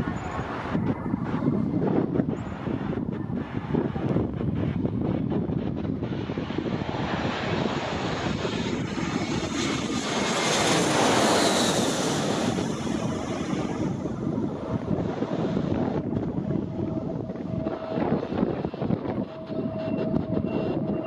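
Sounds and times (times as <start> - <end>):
high jet whine: 0.0 - 21.0
jet airliner passing overhead: 0.0 - 21.0.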